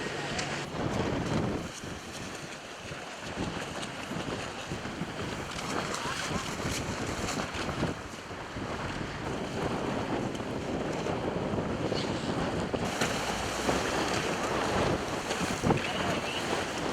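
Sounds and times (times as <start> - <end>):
wind buffeting microphone: 0.0 - 16.9
choppy sea water slapping: 0.1 - 16.9.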